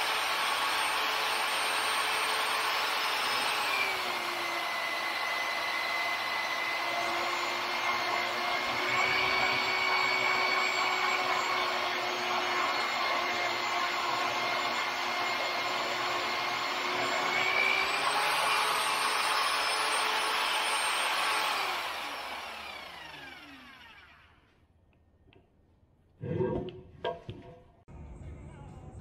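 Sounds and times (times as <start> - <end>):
drill motor whining in steel: 0.0 - 24.5.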